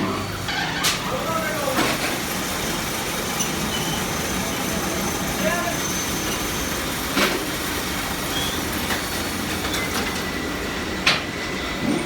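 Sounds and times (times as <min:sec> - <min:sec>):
steady workshop machinery noise: 0:00.0 - 0:12.0.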